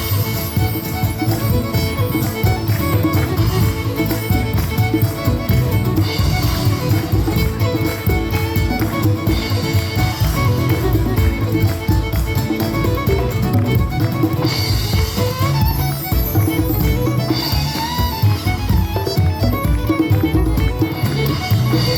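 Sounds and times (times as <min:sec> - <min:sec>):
fiddle playing tune: 0:00.0 - 0:21.9
folk band playing: 0:00.0 - 0:21.9.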